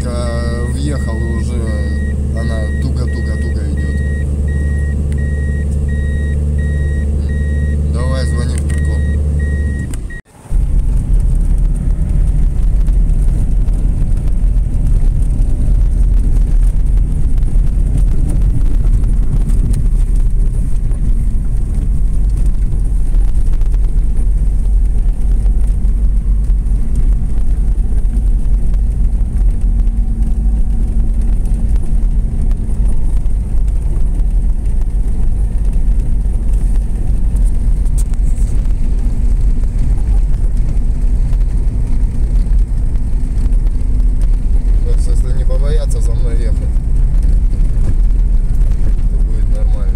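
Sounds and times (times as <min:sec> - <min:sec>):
vehicle driving on snowy road: 0:00.0 - 0:49.9.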